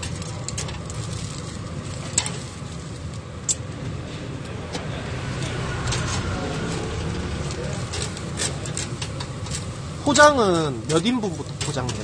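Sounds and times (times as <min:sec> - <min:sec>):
meat grilling over coals: 0:00.0 - 0:12.0.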